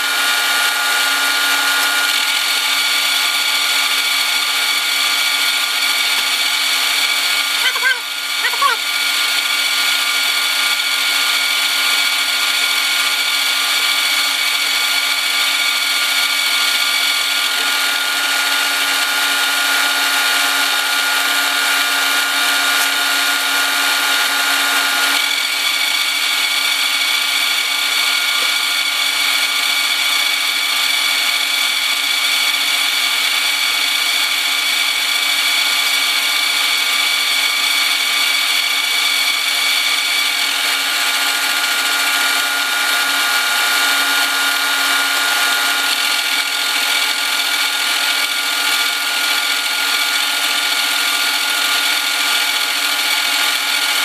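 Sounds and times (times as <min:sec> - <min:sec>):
milling machine cutting metal: 0:00.0 - 0:54.0.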